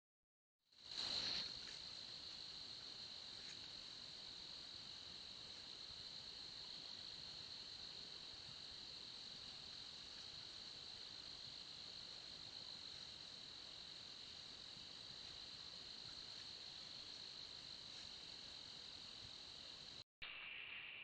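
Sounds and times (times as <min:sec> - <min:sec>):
insects droning: 0:00.7 - 0:21.0.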